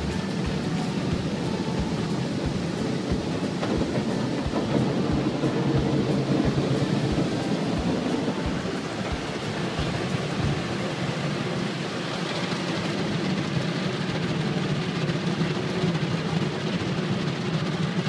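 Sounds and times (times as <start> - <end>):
car wash water spray and machinery: 0.0 - 18.0.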